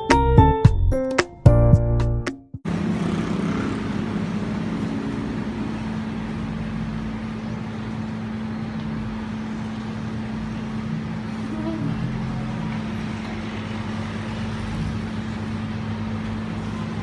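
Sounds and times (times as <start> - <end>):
constant rumbling noise: 2.7 - 17.0
low mechanical hum: 2.7 - 17.0.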